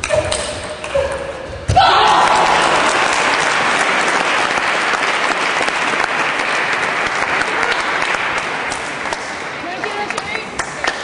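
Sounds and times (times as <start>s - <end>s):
spectators applauding: 2.1s - 11.0s.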